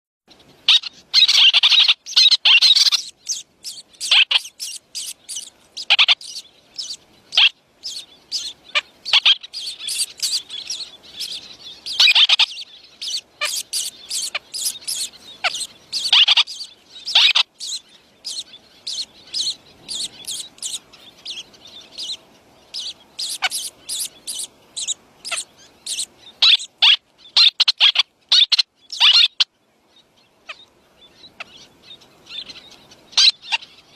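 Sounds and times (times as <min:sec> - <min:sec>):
birds chirping: 0:00.3 - 0:33.9.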